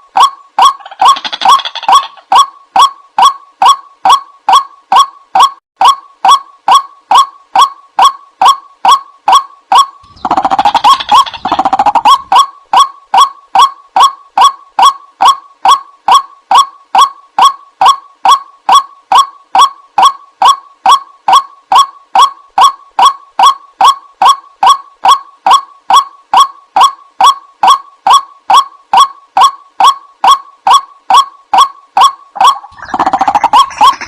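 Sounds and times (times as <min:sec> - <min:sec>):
wavering bird calls: 0:00.0 - 0:34.0
waterhen clipped call: 0:00.2 - 0:34.0.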